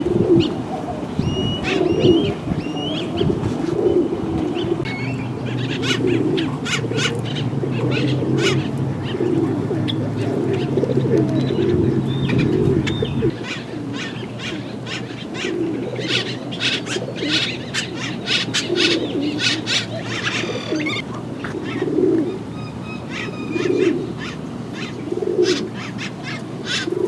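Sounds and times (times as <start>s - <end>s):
pigeons cooing: 0.0s - 27.0s
small birds chirping: 0.0s - 27.0s.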